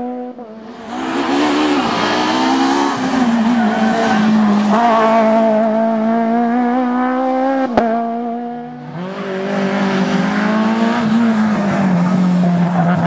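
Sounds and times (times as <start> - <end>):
approaching rally car engine: 0.0 - 13.0
rally car engine revving: 0.0 - 13.0.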